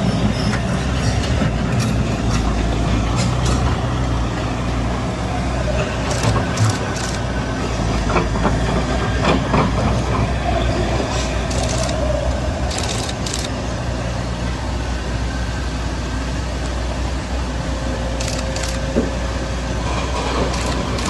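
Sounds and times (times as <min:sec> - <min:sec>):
truck diesel engine running: 0:01.4 - 0:21.0.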